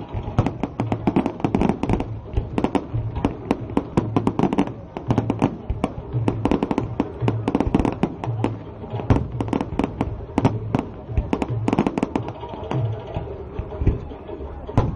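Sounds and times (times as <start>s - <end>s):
fireworks bangs and pops: 0.0s - 14.9s.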